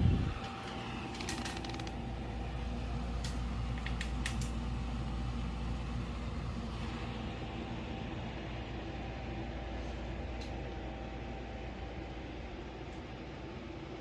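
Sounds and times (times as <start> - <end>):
air conditioner hum and whine: 0.0 - 14.0.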